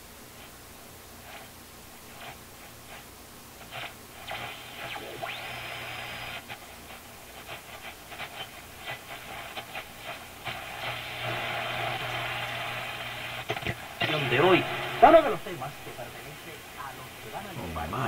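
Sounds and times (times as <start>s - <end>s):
radio static and hiss: 0.0s - 18.0s
steady low hum: 0.0s - 18.0s
radio crackle: 0.4s - 18.0s.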